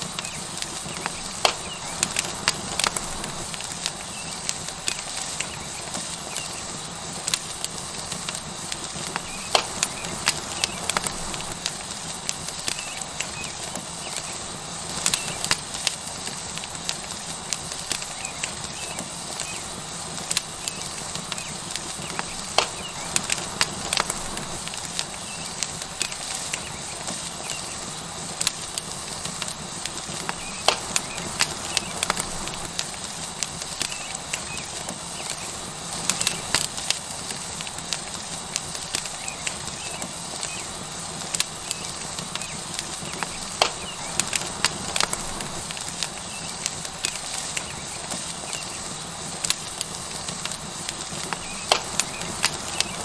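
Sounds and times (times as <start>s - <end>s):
steak sizzling on hot rock: 0.0s - 53.0s
wood fire crackling and popping: 0.0s - 53.0s.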